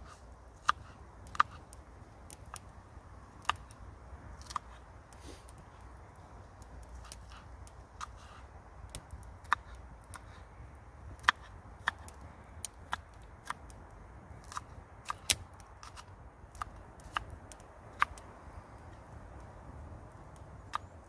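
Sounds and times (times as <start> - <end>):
campfire crackling and popping: 0.0 - 21.0
low steady fire rumble: 0.0 - 21.0.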